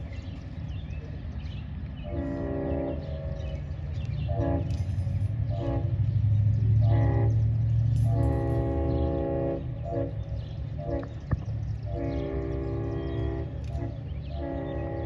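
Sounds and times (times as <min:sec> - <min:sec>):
diesel locomotive rumble: 0:00.0 - 0:15.0
locomotive horn blasts: 0:02.0 - 0:11.2, 0:11.8 - 0:15.0.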